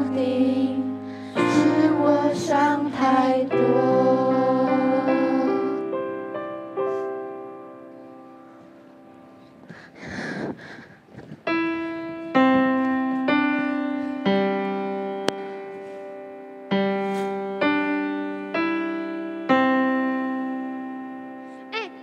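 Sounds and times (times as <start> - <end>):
slow piano notes: 0.0 - 22.0.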